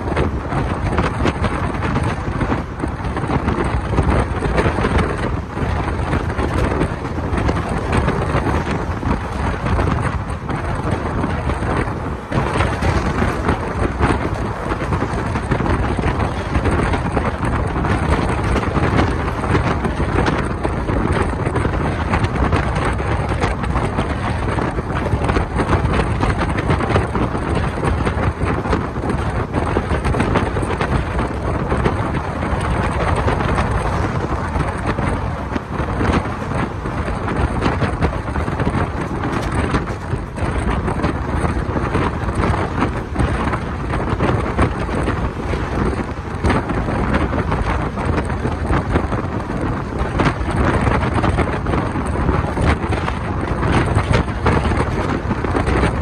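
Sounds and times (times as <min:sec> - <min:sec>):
train coach rumbling on rails: 0:00.0 - 0:56.0
wind rushing over microphone: 0:00.0 - 0:56.0.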